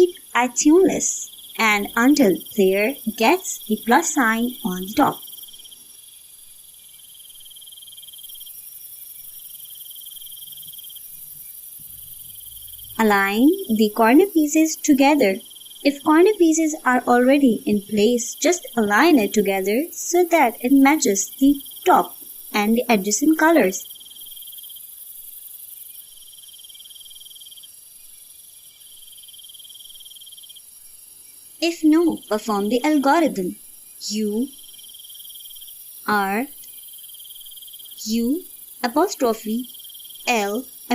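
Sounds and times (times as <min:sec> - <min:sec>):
crickets trilling: 0:00.0 - 0:40.9
low pulsing insect chirp: 0:00.0 - 0:40.9.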